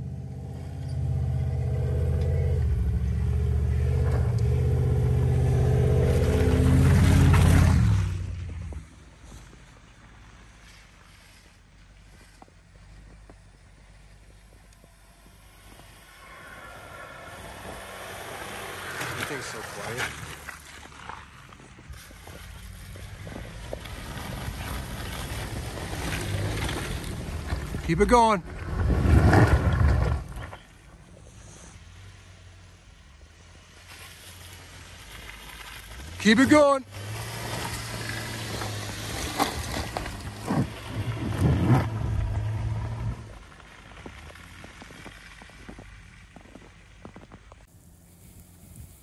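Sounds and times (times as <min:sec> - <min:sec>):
car engine rumbling under load: 0:00.0 - 0:49.0.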